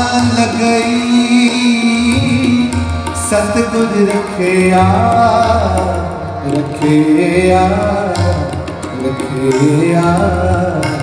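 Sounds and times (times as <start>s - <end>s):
harmonium melody: 0.0s - 11.0s
tabla rhythm: 0.0s - 11.0s.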